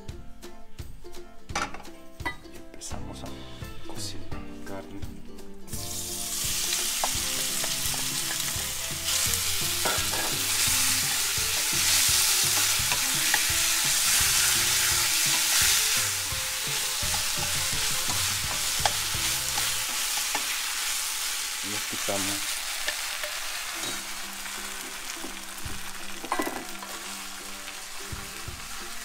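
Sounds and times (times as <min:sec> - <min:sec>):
meat sizzling in a frying pan: 0:05.8 - 0:29.0.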